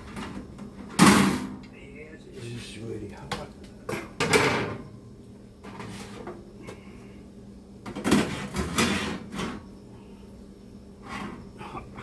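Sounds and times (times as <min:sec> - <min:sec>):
oven fan humming: 0:00.0 - 0:12.0.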